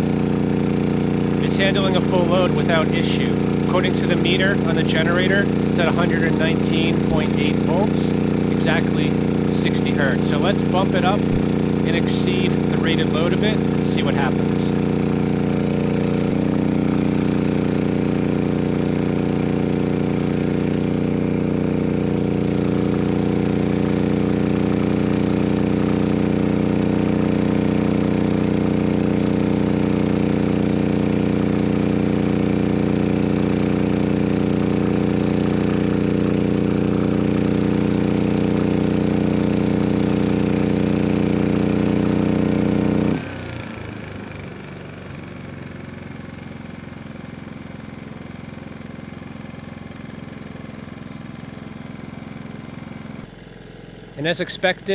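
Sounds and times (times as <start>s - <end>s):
generator engine running: 0.0s - 54.9s.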